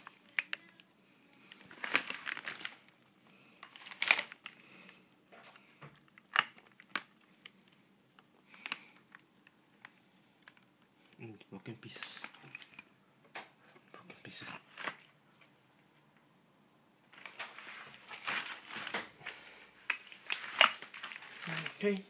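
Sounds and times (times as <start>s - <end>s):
plastic packaging crinkling: 0.0s - 10.8s, 11.7s - 12.9s, 14.3s - 15.2s, 17.1s - 22.0s.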